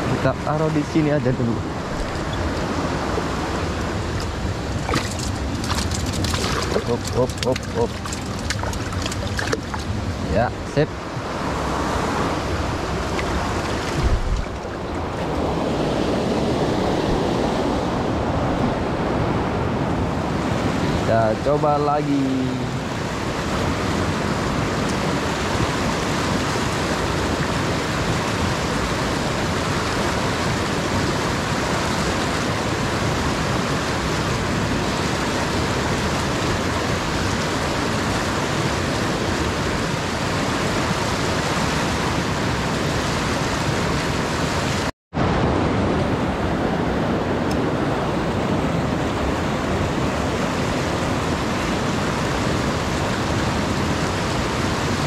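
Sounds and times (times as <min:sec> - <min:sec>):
river water rushing over boulders: 0:00.0 - 0:55.0.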